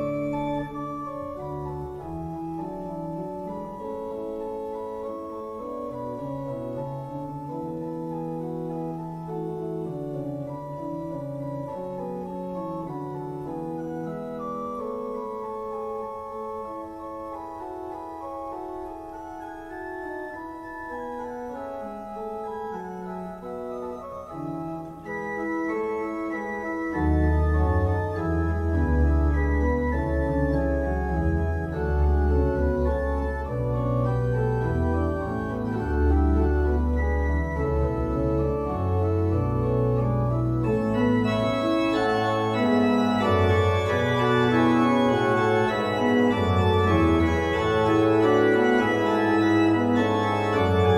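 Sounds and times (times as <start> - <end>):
church organ playing: 0.0 - 50.9
deep organ pedal bass notes: 0.0 - 50.9.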